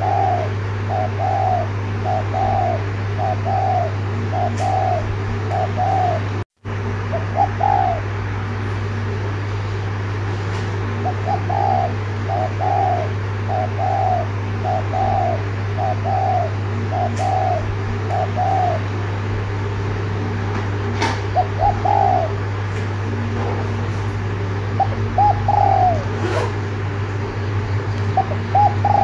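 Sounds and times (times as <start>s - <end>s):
dove cooing: 0.0s - 6.4s, 7.0s - 8.5s, 10.8s - 19.6s, 21.1s - 29.0s
steady low hum: 0.0s - 29.0s.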